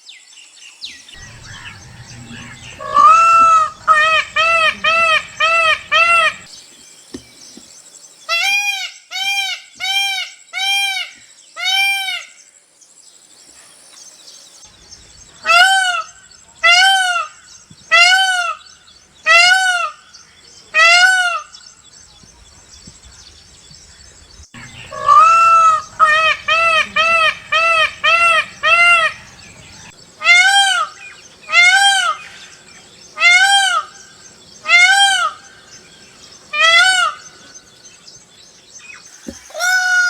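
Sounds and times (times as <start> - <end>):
peacock calling: 0.9 - 12.4, 14.7 - 40.0.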